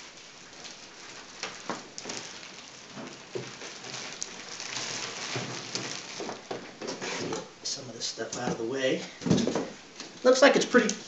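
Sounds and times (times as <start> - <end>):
plastic wrapping crinkling: 0.0 - 7.6, 8.2 - 11.0.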